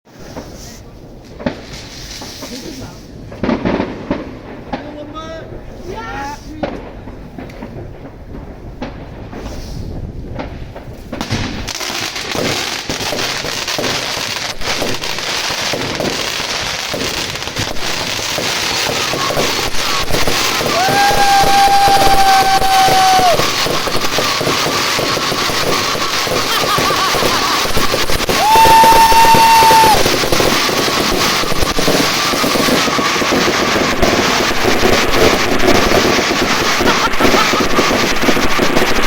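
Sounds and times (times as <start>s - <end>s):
firework whistling: 0.1s - 4.1s, 8.9s - 39.0s
firework thumps: 0.1s - 5.8s, 6.4s - 39.0s
fireworks bangs and crackling: 0.1s - 39.0s.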